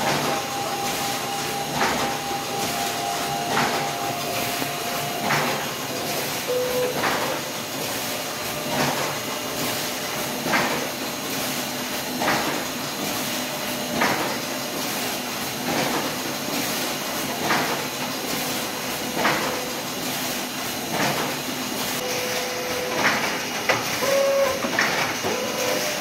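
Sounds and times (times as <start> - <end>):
machine whirring: 0.0 - 26.0.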